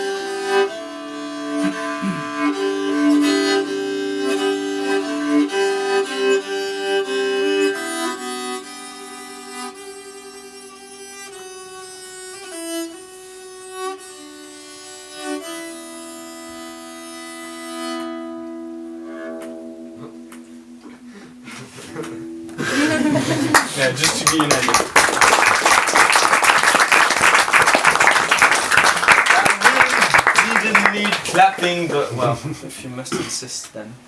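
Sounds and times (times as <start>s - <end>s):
bowed string instrument melody: 0.0s - 32.6s.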